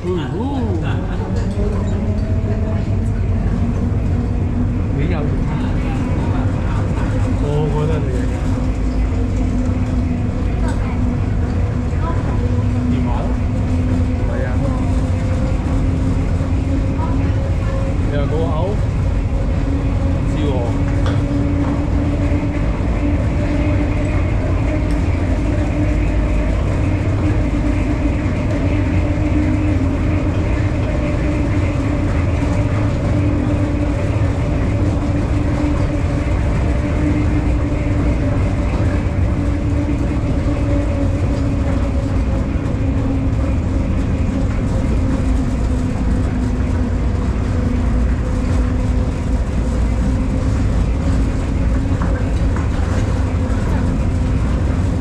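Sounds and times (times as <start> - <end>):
constant hum: 0.0 - 55.0
train rumbling through tunnel: 0.0 - 55.0.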